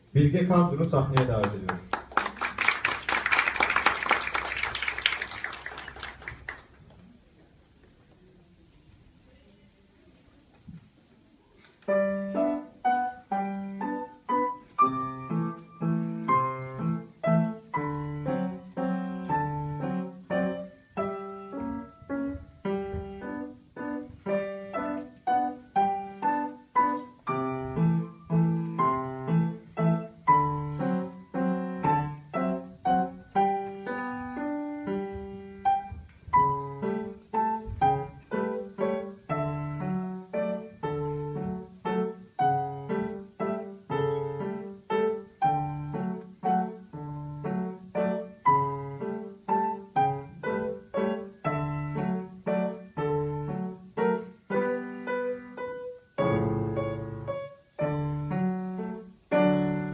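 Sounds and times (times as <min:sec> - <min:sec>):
grand piano playing: 0:11.8 - 0:59.9.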